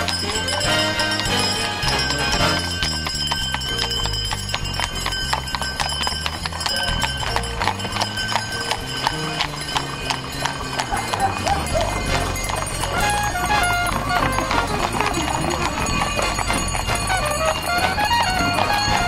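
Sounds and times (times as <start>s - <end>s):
hooves clip-clopping on asphalt: 0.0s - 19.0s.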